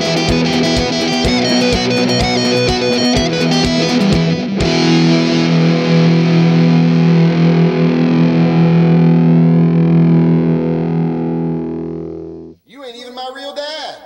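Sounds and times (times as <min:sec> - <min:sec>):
distorted electric guitar: 0:00.0 - 0:12.6.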